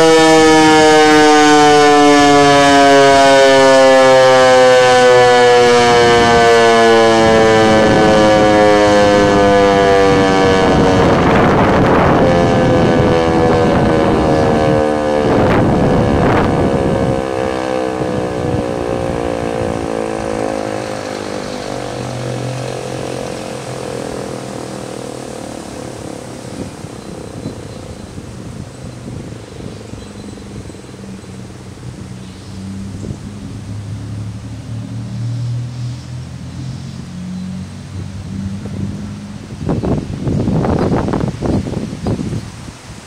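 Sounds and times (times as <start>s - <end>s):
siren winding down: 0.0s - 35.6s.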